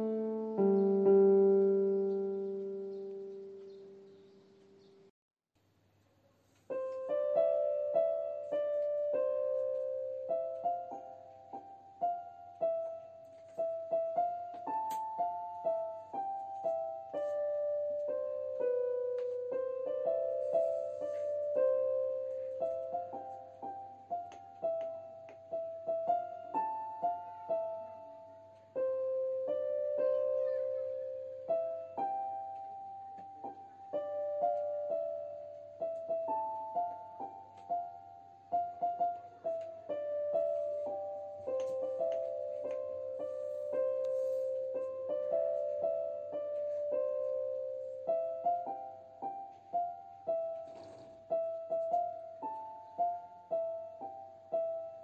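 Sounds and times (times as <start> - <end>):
gentle piano melody: 0.0 - 5.1, 6.4 - 55.0.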